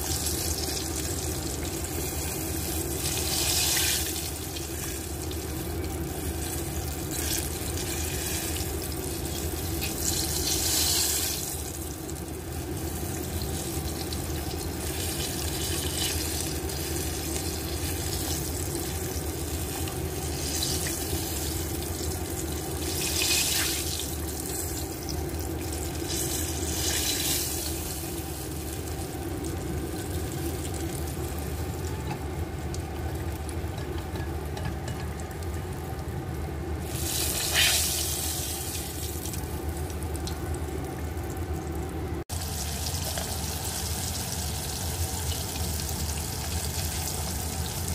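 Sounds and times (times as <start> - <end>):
chicken deep-frying in oil: 0.0 - 47.9.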